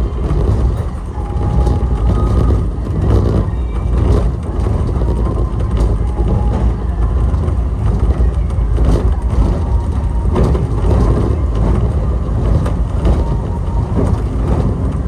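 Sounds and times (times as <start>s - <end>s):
faint whining tones: 0.0s - 15.0s
train low rumble: 0.0s - 15.0s.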